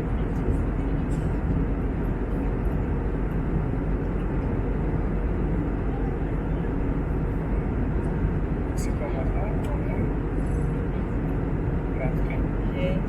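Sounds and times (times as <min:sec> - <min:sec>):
airplane cabin roar: 0:00.0 - 0:13.0.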